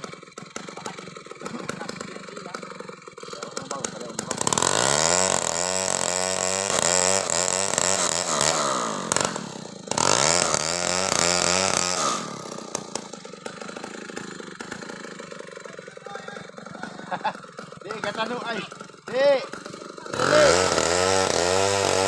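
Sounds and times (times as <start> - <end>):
chainsaw cutting wood: 0.0 - 22.0
chainsaw idling: 0.0 - 22.0.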